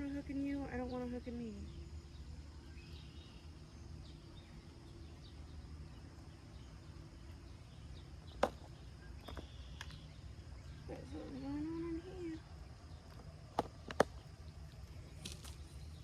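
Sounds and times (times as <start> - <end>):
faint bird chirps: 0.0 - 13.2
steady low rumble: 0.0 - 16.0.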